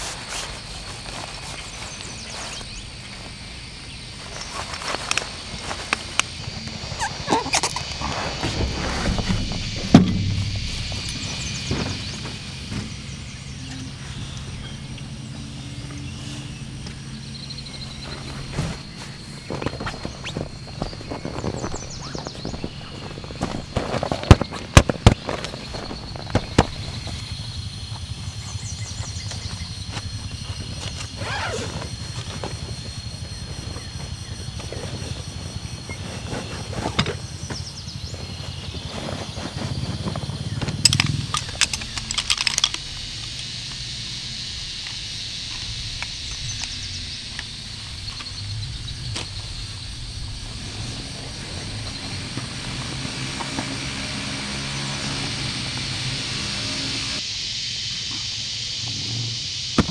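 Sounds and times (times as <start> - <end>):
distant engine drone: 0.0 - 59.9.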